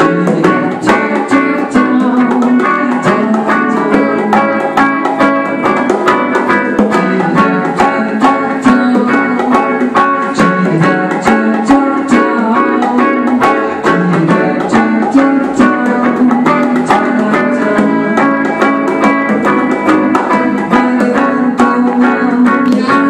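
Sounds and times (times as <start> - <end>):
electric bass: 0.0 - 23.0
electric guitar: 0.0 - 23.0
hand percussion beat: 0.0 - 23.0.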